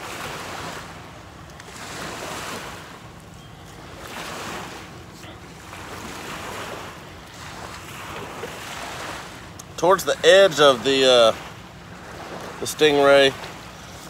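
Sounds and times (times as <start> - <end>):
small waves washing on shore: 0.0 - 14.0
wind: 0.0 - 14.0.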